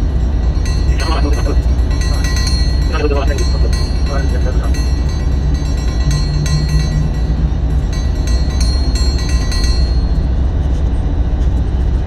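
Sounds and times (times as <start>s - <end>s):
train rumbling on tracks: 0.0s - 12.0s.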